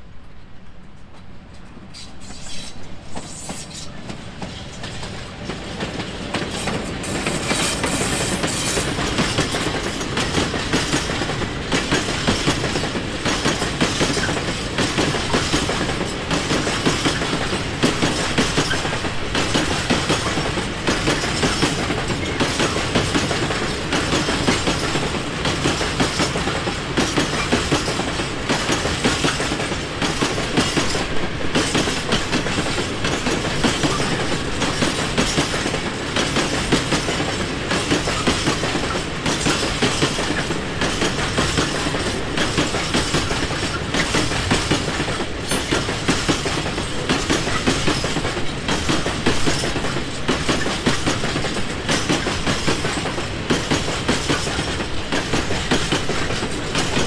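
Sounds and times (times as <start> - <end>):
freight train passing: 0.0 - 57.0.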